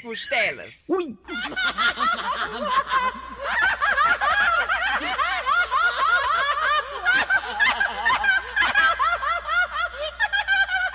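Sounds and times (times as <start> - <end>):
high-pitched comic laughter: 1.3 - 10.9.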